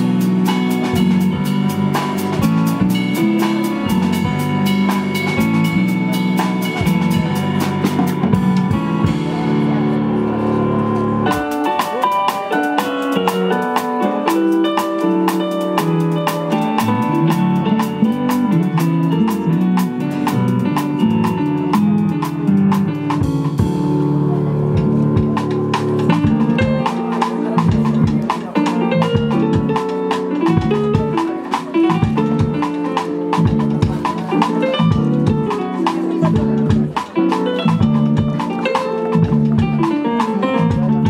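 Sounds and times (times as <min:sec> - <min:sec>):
drum kit playing: 0:00.0 - 0:41.0
electric bass guitar: 0:00.0 - 0:41.0
keyboard synthesizer chords: 0:00.0 - 0:41.0.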